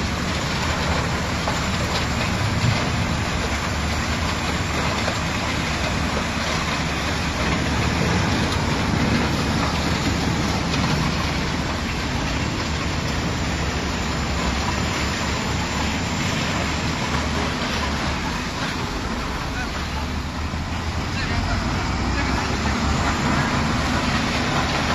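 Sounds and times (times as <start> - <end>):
low engine hum: 0.0 - 24.9.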